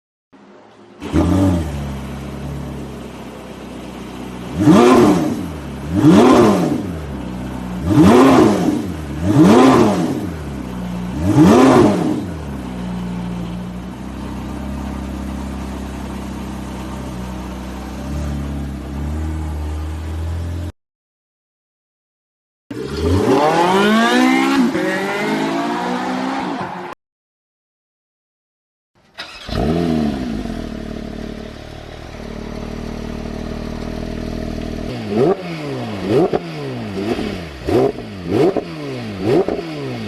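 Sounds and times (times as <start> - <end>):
car engine idling and revving: 0.4 - 20.8, 22.7 - 27.0, 29.2 - 40.0.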